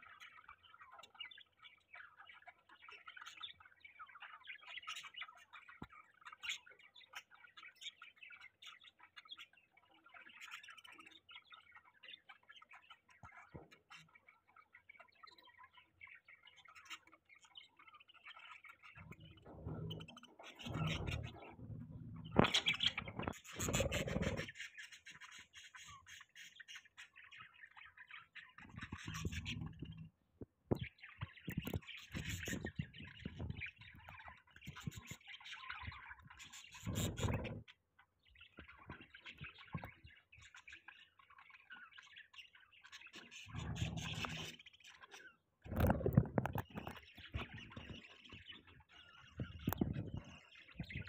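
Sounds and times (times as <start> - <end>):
budgies chirping and chattering: 0.0 - 51.0.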